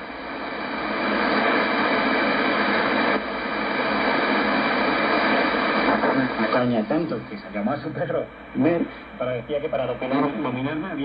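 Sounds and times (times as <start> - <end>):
radio static hissing: 0.0 - 11.0.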